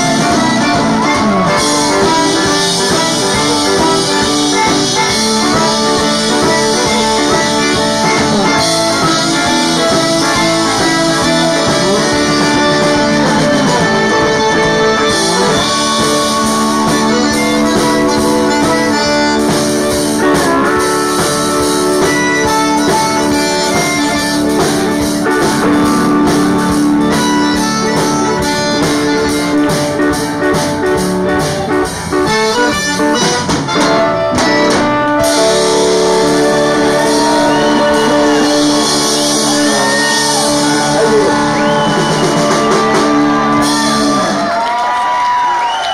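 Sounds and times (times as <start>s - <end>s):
accordion: 0.0s - 44.2s
steel guitar: 0.0s - 44.7s
guitar: 0.0s - 45.9s.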